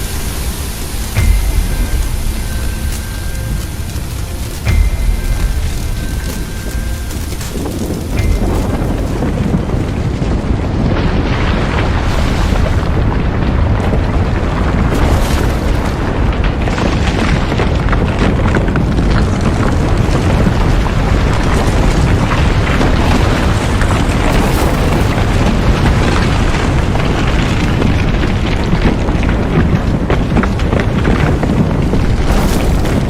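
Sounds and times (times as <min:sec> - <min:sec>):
crackles: 0:00.0 - 0:33.0
loud low rumble: 0:00.0 - 0:33.0.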